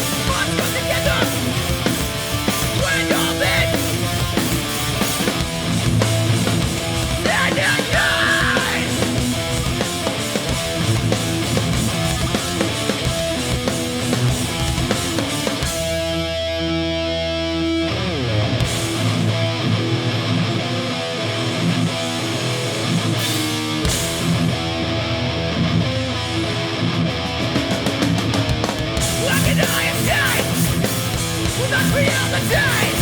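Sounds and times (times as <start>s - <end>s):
punk band playing: 0.0s - 33.0s.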